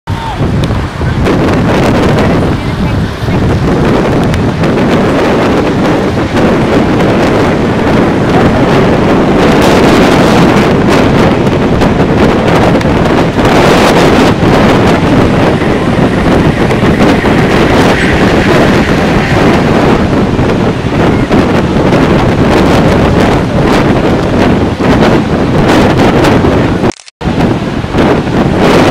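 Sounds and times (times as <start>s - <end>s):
wind buffeting microphone: 0.1s - 28.9s.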